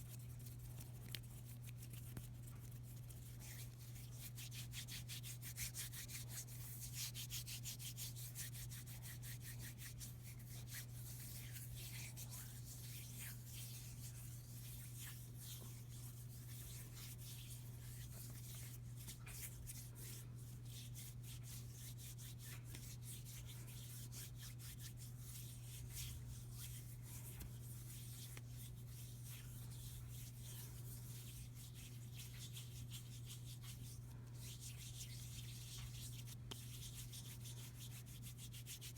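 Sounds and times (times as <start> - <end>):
hands rubbing together: 0.0 - 38.9.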